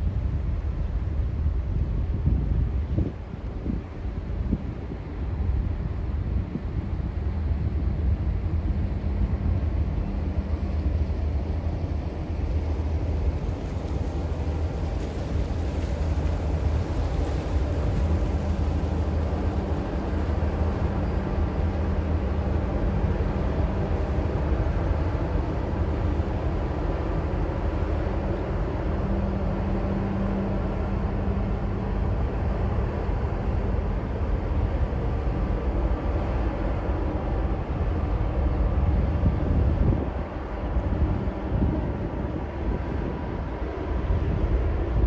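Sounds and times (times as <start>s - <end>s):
hum: 0.0s - 45.0s
ship engine low rumble: 0.0s - 45.0s.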